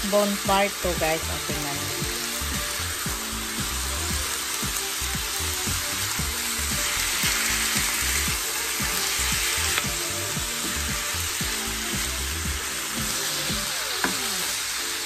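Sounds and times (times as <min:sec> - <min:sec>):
meat and onion sizzling in oil: 0:00.0 - 0:15.0
spatula stirring in pan: 0:01.0 - 0:14.7.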